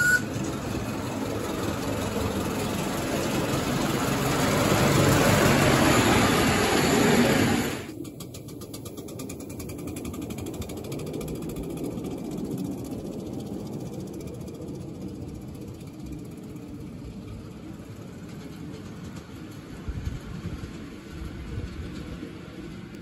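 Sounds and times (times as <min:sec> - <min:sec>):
model steam train rumbling: 0:00.0 - 0:23.0.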